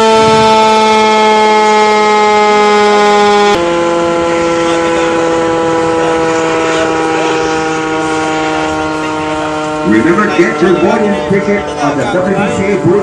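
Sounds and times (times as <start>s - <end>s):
loud air horn: 0.0s - 12.9s.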